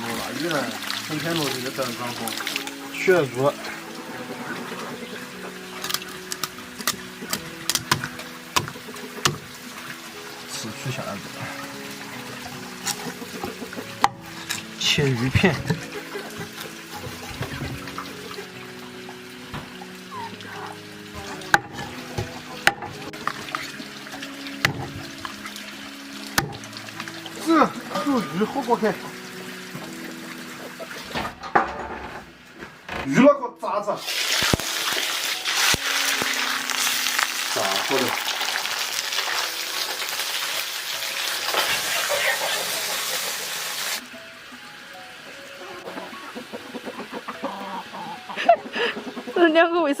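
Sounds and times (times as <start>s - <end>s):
fish frying in hot oil: 0.0s - 31.1s, 34.0s - 45.6s
soft background music: 0.0s - 50.0s.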